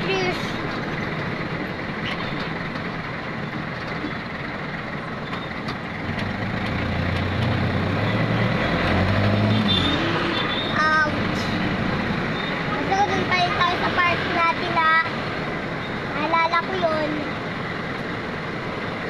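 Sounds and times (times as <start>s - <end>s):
road noise: 0.0s - 19.0s
vehicle engine drone: 0.0s - 19.0s.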